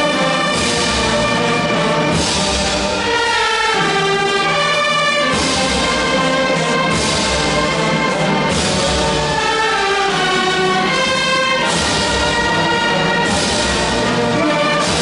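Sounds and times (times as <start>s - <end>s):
brass band sustained chords: 0.0s - 15.0s.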